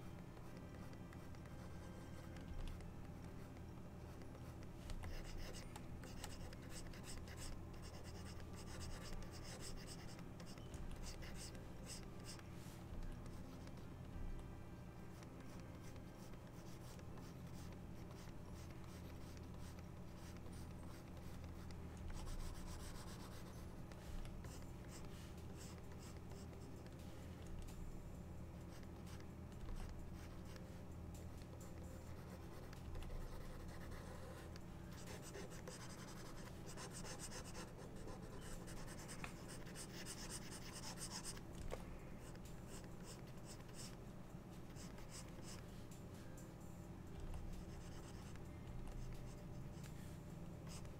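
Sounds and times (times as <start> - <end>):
stylus scratching on tablet: 0.0 - 14.2, 15.0 - 27.0, 31.4 - 41.5, 42.2 - 44.0, 44.6 - 45.7, 47.1 - 50.9
steady low hum: 0.0 - 50.9.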